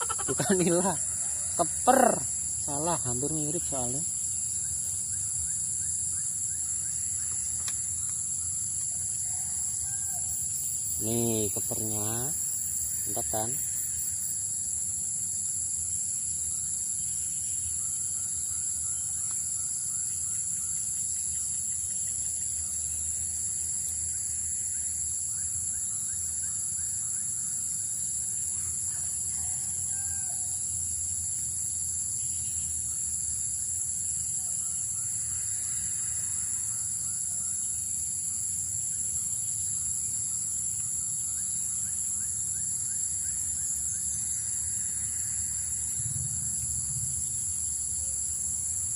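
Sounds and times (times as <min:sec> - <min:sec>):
insects chirping: 0:00.0 - 0:48.9.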